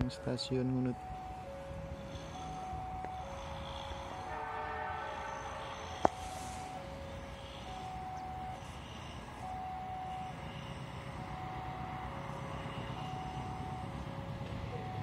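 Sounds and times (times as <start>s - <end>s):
train rumble: 0.0s - 15.0s
two-tone electronic warning alarm: 0.0s - 15.0s.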